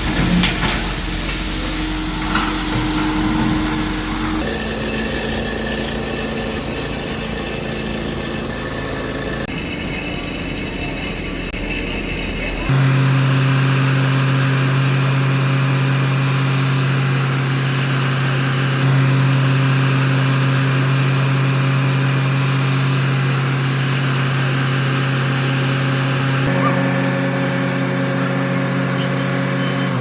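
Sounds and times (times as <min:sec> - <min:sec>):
diesel engines droning: 0:00.0 - 0:30.0.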